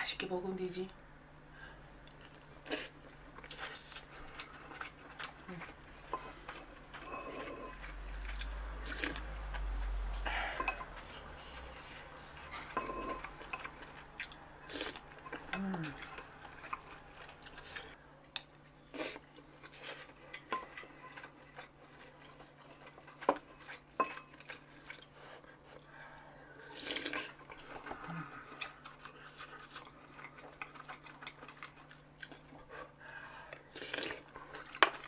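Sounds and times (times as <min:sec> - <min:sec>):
faint steady hum: 0:00.0 - 0:35.0
quiet chewing: 0:01.3 - 0:35.0.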